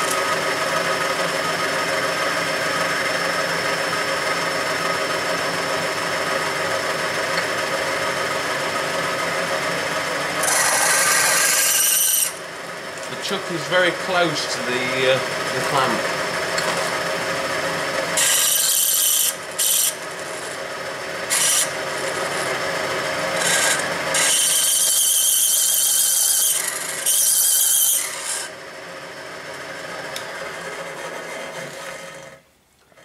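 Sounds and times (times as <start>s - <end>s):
lathe running: 0.0s - 32.4s.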